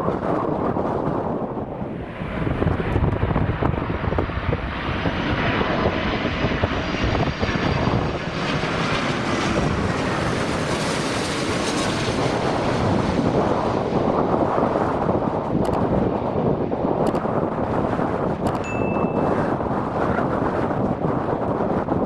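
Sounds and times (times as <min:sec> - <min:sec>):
airliner engines passing overhead: 0:00.0 - 0:22.0.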